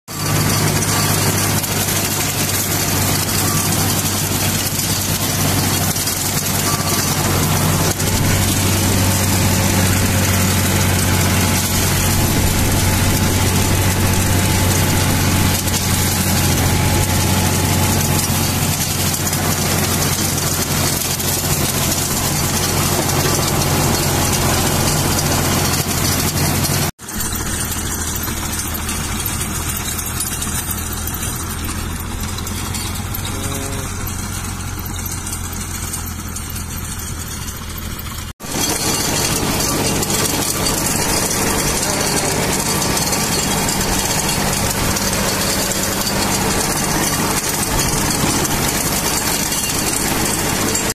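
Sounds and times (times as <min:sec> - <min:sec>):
rotary tiller in dry soil: 0:00.0 - 0:50.9
tractor engine running: 0:00.0 - 0:50.9.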